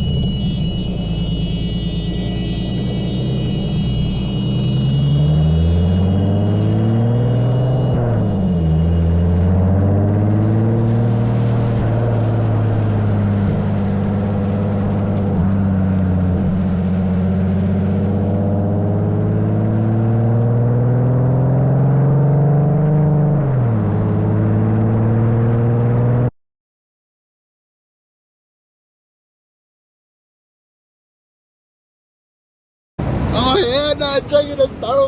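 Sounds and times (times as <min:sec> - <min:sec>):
car engine while driving: 0:00.0 - 0:26.3, 0:33.0 - 0:35.0.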